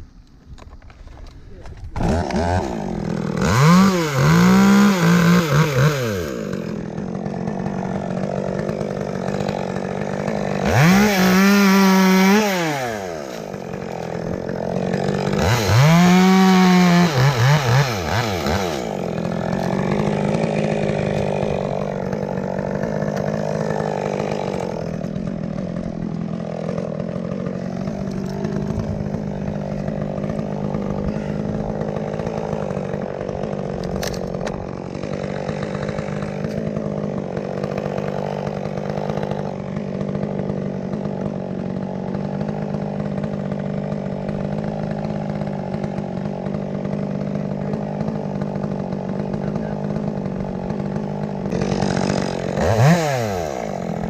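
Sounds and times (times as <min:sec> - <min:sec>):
chainsaw revving: 0:00.5 - 0:54.0.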